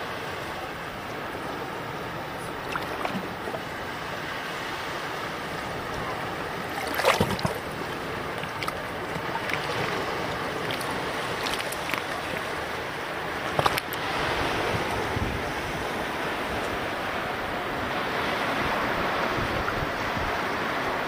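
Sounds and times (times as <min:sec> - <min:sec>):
small waves lapping on sand: 0:00.0 - 0:21.0.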